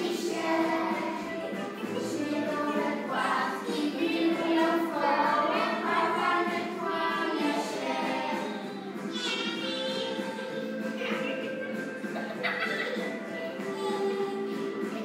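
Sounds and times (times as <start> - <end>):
choir singing children's song: 0.0 - 12.1
musical backing: 0.0 - 15.0.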